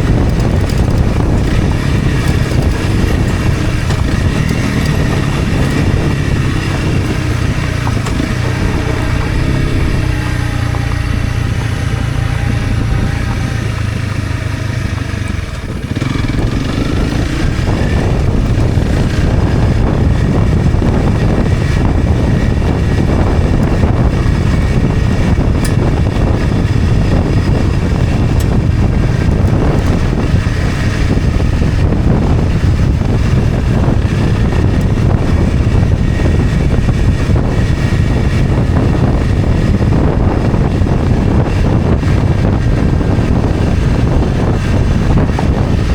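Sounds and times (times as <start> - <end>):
motorcycle engine running: 0.0 - 45.9
tyres on dirt road: 0.0 - 45.9
wind: 0.0 - 45.9.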